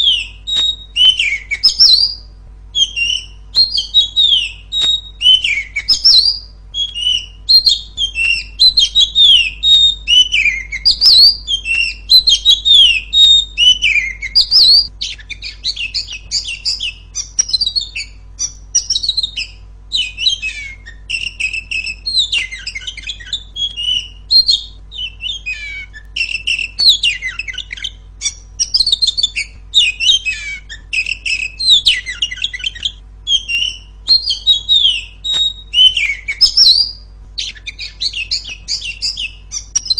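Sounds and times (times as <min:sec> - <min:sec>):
bird chattering: 0:00.0 - 0:39.9
bird singing whistled notes: 0:00.0 - 0:39.9.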